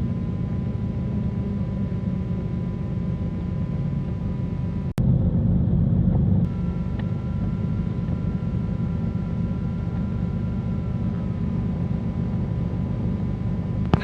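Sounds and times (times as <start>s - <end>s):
twin piston engines droning: 0.0s - 14.0s.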